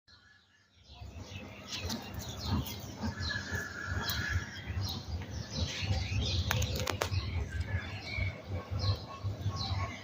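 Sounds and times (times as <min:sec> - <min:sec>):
small birds chirping: 0:00.1 - 0:10.0.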